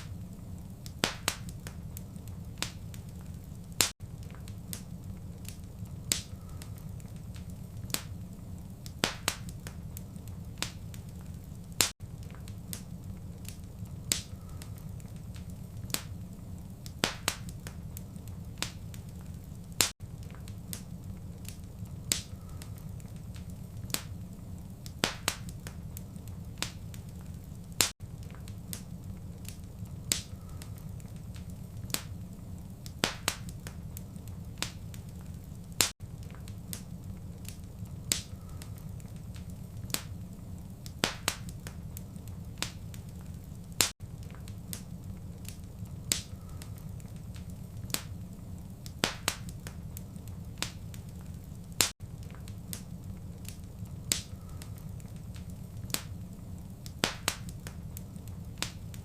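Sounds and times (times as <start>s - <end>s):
fireplace fire crackling: 0.0s - 59.0s.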